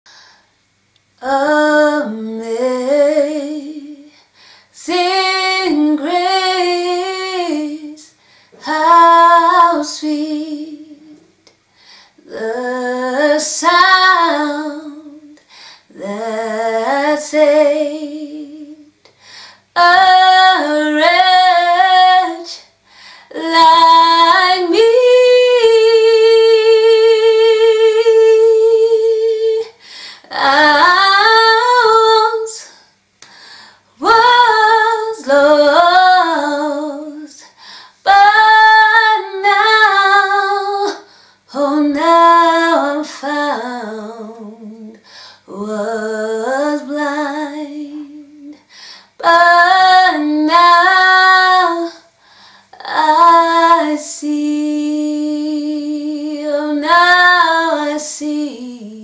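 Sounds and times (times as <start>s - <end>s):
woman singing unaccompanied: 1.2s - 4.2s, 4.8s - 11.4s, 12.2s - 19.0s, 19.7s - 32.9s, 34.0s - 52.1s, 52.7s - 59.0s.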